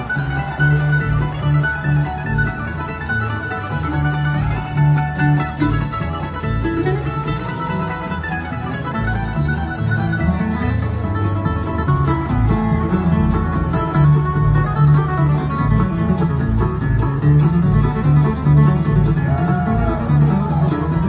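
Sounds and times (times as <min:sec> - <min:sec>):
bluegrass band playing: 0:00.0 - 0:21.0.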